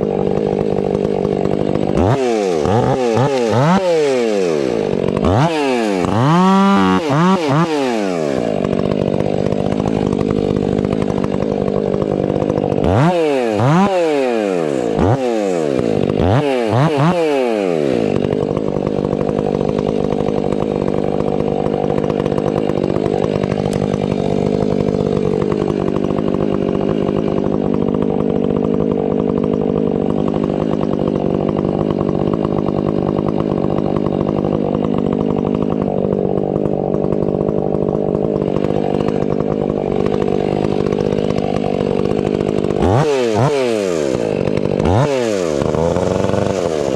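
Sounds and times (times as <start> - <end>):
chainsaw revving and cutting: 0.0 - 46.9.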